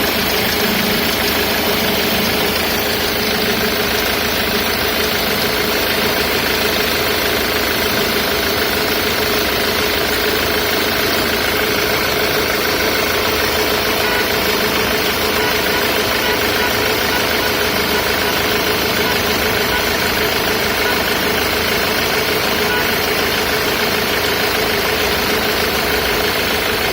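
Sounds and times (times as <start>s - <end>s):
diesel engine idling: 0.0s - 26.9s.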